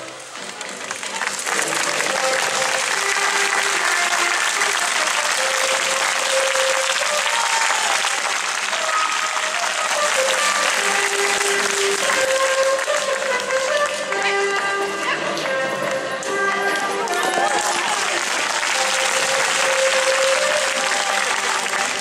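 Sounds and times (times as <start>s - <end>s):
crowd applauding: 0.0s - 15.6s, 16.2s - 22.0s
music in long held notes: 0.0s - 22.0s.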